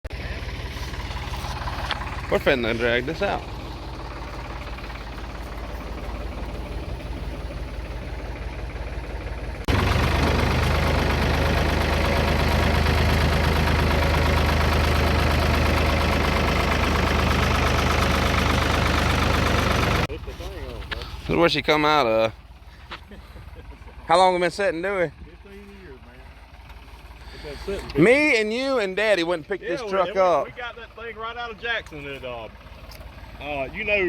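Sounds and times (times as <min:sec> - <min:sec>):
vehicle engine running: 0:00.1 - 0:34.0.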